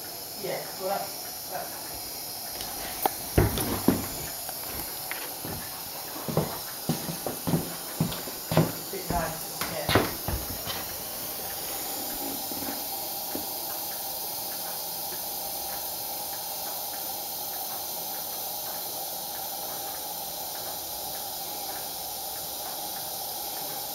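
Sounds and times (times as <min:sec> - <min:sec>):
pressure lamp hissing: 0:00.0 - 0:23.9.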